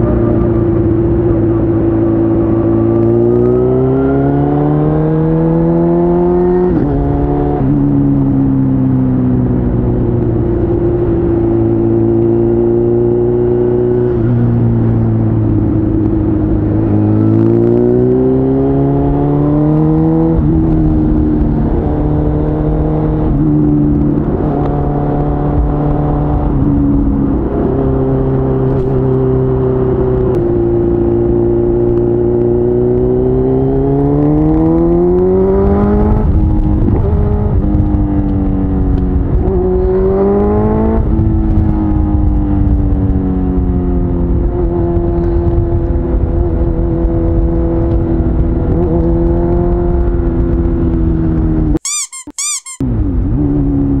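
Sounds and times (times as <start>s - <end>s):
low wind rush: 0.0s - 51.8s
motorcycle engine accelerating: 0.0s - 54.0s.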